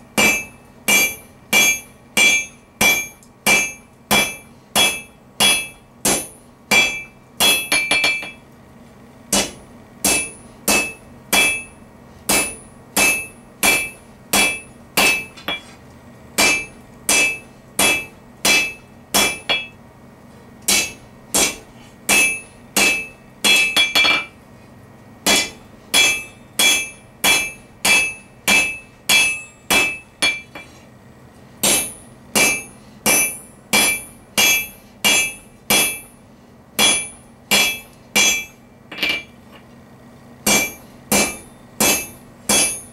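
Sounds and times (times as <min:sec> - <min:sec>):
hammer ringing on anvil: 0:00.2 - 0:08.4, 0:09.3 - 0:15.7, 0:16.4 - 0:19.8, 0:20.7 - 0:24.4, 0:25.3 - 0:30.7, 0:31.6 - 0:36.2, 0:36.8 - 0:39.4, 0:40.5 - 0:42.9.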